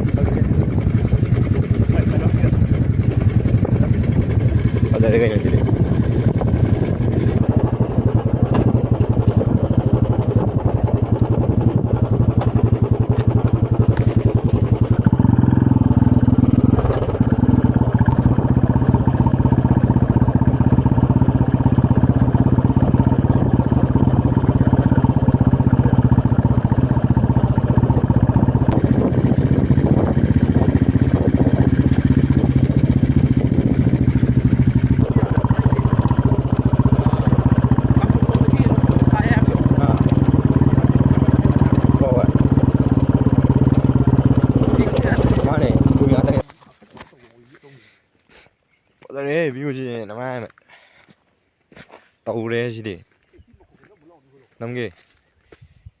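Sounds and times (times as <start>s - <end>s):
motorcycle engine running: 0.0s - 46.5s.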